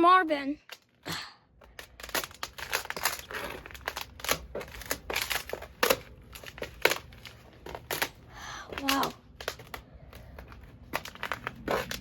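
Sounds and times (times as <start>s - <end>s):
ice crunching and cracking: 1.6s - 12.0s.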